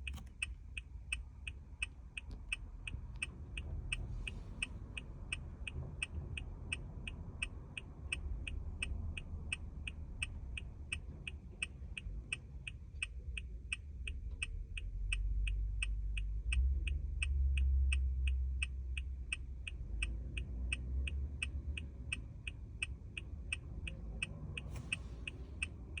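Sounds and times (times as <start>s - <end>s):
hazard lights ticking: 0.0s - 26.0s.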